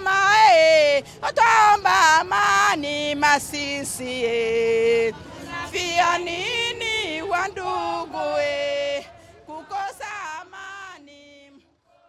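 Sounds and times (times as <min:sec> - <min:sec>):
voices singing gliding notes: 0:00.0 - 0:11.4.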